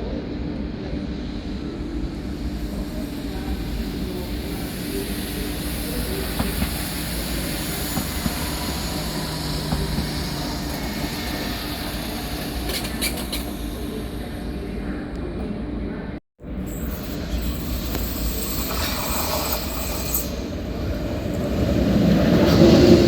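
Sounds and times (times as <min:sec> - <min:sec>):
rail vehicle rumbling past: 0:00.0 - 0:23.0.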